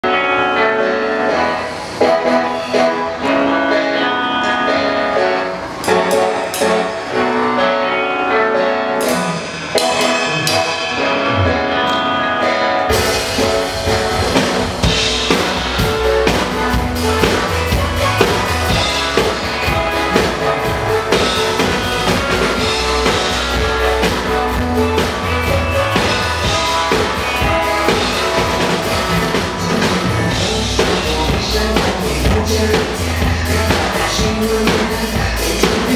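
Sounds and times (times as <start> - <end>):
recorded pop song: 0.0 - 35.9
drum kit playing: 1.4 - 8.1, 8.9 - 35.9.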